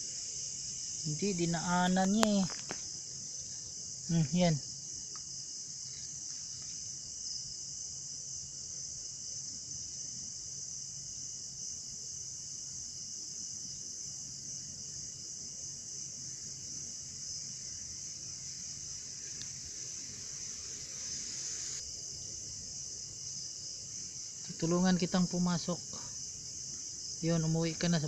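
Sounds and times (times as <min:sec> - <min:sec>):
night insects chorus: 0:00.0 - 0:28.0.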